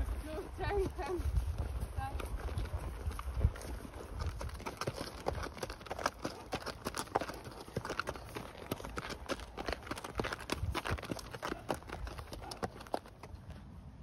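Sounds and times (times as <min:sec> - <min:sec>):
horse hooves on gravel: 0:00.0 - 0:14.0.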